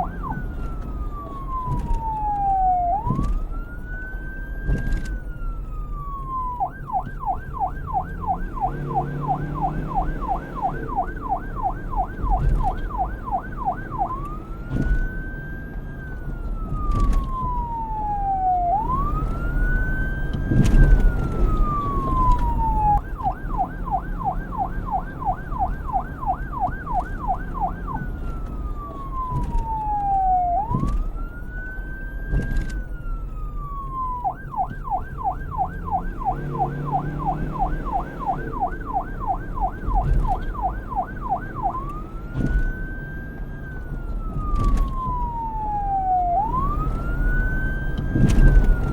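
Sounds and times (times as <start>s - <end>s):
police siren wail and yelp: 0.0s - 48.9s.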